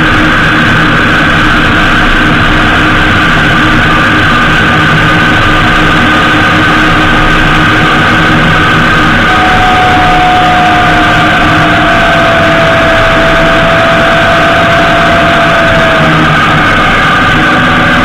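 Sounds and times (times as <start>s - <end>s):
engine hum: 0.0s - 18.0s
motorcycle road noise: 0.0s - 18.0s
whining tone: 0.0s - 18.0s
wind rush: 0.0s - 18.0s.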